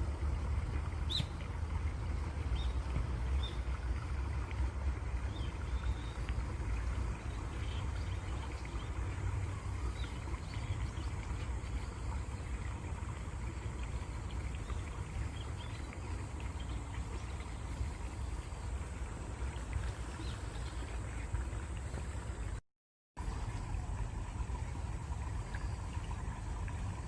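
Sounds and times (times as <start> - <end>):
stream water rushing: 0.0 - 22.6, 23.2 - 27.0.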